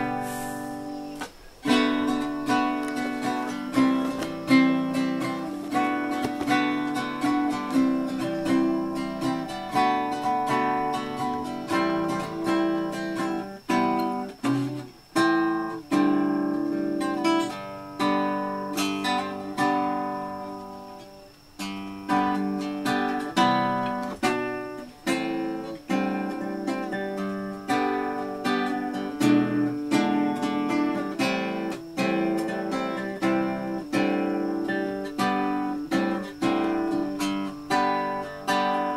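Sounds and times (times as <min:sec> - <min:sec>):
acoustic guitar strummed and picked: 0:00.0 - 0:38.9.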